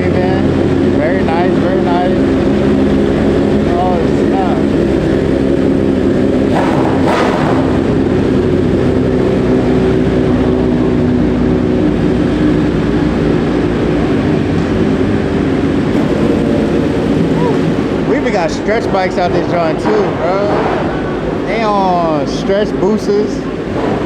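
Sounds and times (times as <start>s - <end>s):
motorcycle and car engines: 0.0s - 24.0s.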